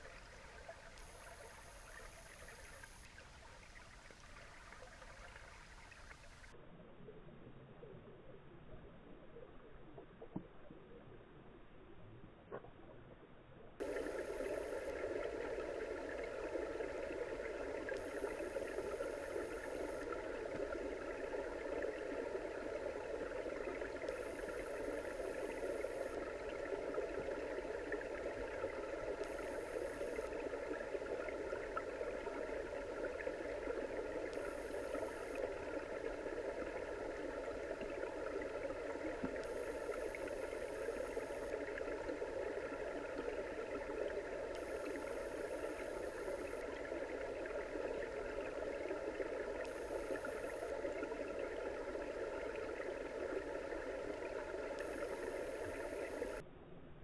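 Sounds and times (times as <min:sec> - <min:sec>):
muffled underwater hiss: 0:00.0 - 0:06.5, 0:13.8 - 0:56.4
faint steady tones: 0:00.0 - 0:11.2, 0:13.8 - 0:56.5.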